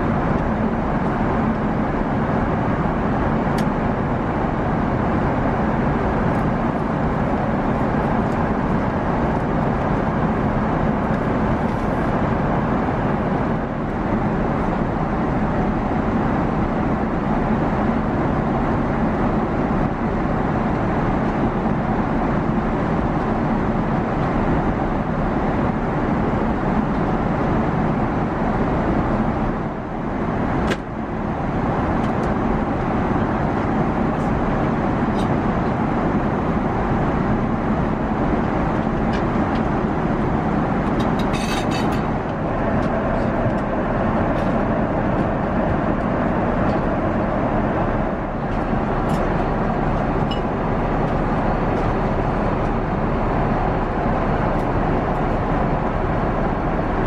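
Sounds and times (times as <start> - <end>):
airplane cabin noise: 0.0 - 57.0.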